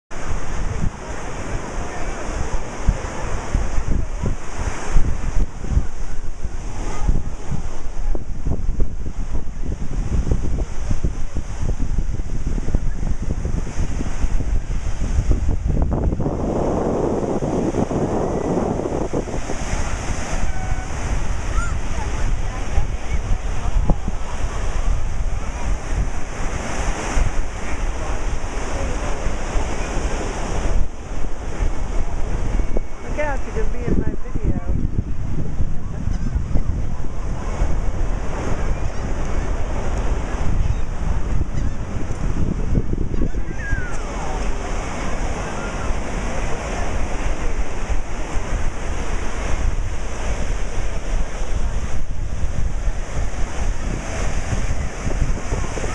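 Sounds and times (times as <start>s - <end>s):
surf washing on beach: 0.1s - 55.9s
wind buffeting microphone: 0.1s - 55.9s.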